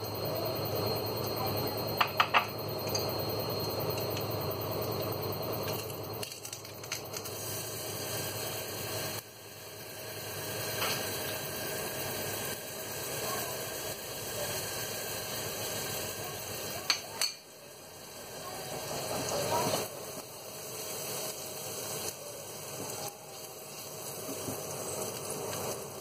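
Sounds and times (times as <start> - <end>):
garlic sizzling in hot oil: 2.0 - 26.0.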